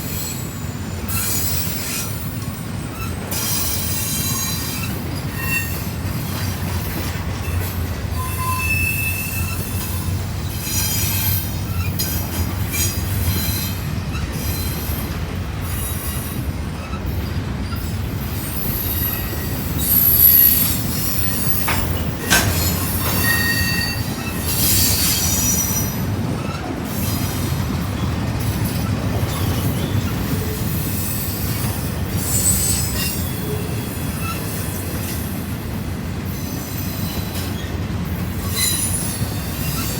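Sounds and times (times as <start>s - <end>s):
freight train rumbling: 0.0s - 39.9s
train wheel squeals: 0.0s - 39.9s.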